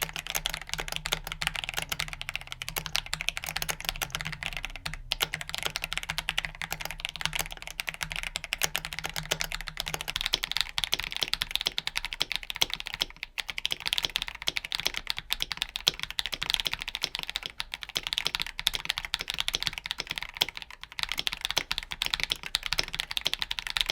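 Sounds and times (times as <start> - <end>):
fast typing on mechanical keyboard: 0.0 - 23.9.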